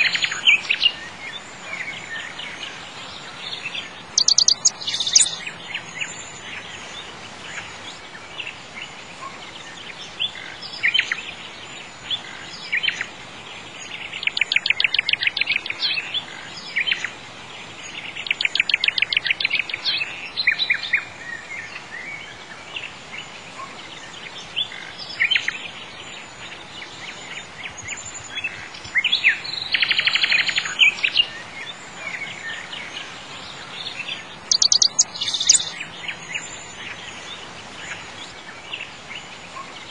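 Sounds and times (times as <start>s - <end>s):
birds chirping and trilling: 0.0s - 39.9s
faint steady hiss: 0.0s - 39.9s.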